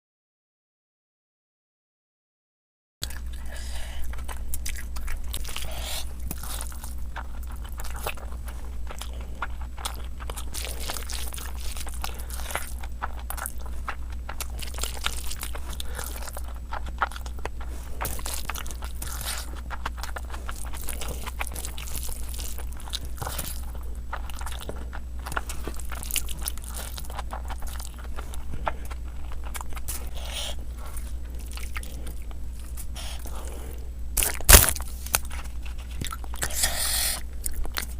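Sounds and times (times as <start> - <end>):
low electrical hum: 3.0 - 37.9
person chewing food: 3.0 - 37.9.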